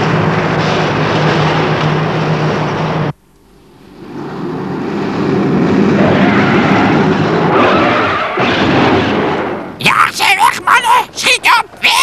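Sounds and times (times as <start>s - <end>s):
truck engines humming: 0.0s - 9.8s.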